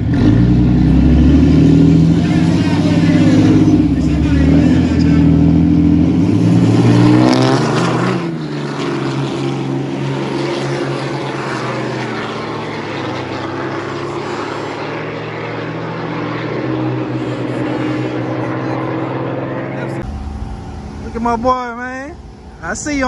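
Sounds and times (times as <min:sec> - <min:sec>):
pickup truck engine revving: 0:00.0 - 0:23.0.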